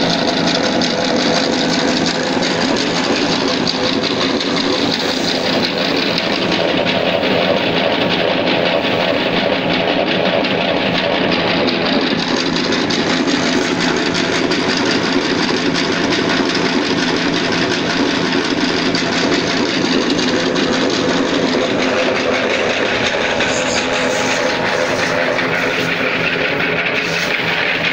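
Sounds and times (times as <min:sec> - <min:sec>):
oil press machine drone: 0:00.0 - 0:27.9.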